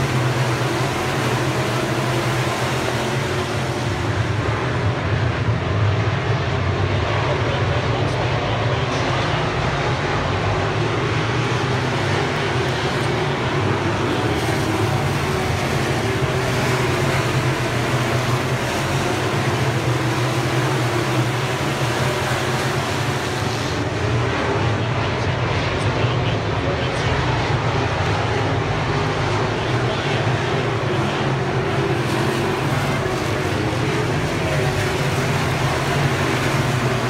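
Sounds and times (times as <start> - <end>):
race car engines droning: 0.0 - 37.0.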